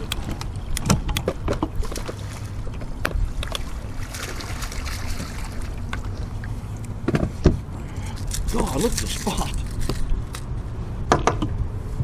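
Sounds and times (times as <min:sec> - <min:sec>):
water noise around boat: 0:00.0 - 0:12.0.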